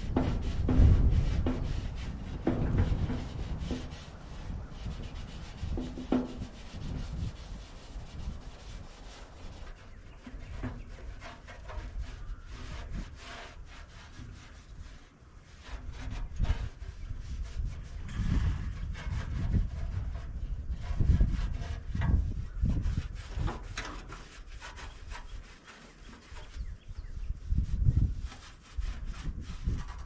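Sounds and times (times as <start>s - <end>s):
hand scrubbing a panel: 0.0s - 30.0s.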